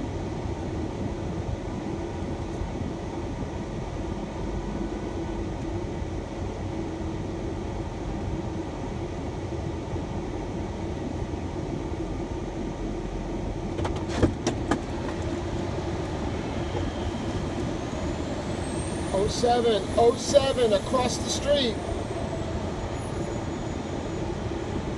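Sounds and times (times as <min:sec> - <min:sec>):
steady low hum: 0:00.0 - 0:13.8, 0:14.7 - 0:24.9
engine and road noise in van: 0:00.0 - 0:24.9.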